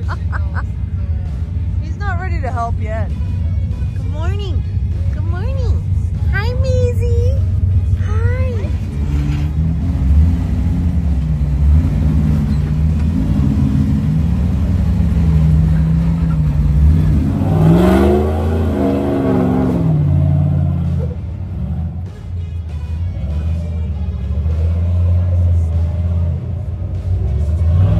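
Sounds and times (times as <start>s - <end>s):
off-road vehicle engine revving: 0.0s - 27.9s.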